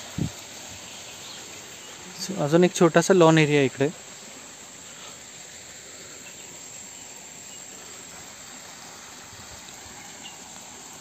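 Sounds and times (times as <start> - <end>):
soft background hiss: 0.0 - 11.0.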